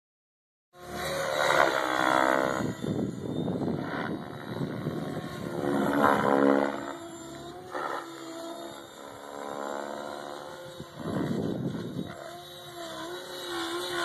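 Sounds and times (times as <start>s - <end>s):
model helicopter rotor whine: 0.8s - 14.0s.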